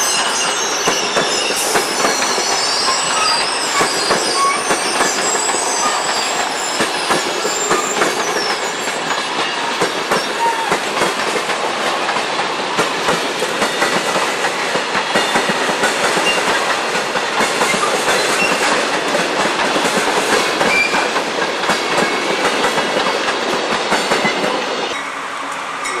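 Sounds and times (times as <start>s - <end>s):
train wheels clicking over rail joints: 0.2s - 26.0s.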